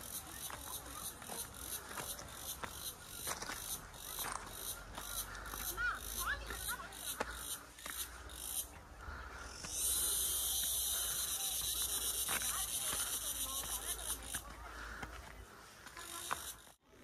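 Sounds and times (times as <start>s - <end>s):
insects droning in pulses: 0.0s - 14.5s
continuous insect buzz: 0.0s - 15.0s, 15.8s - 16.8s.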